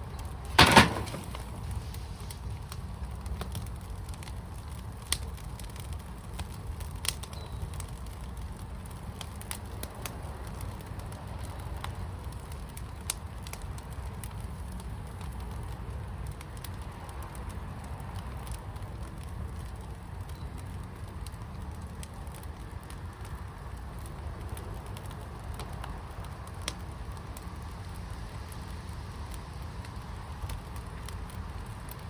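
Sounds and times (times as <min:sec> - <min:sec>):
fire crackling and popping: 0:00.0 - 0:32.0
fire low rumble: 0:00.0 - 0:32.0.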